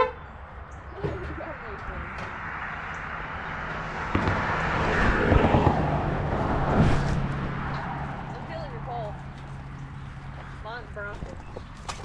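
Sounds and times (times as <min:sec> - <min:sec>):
vehicle passing close by: 0:01.4 - 0:12.0.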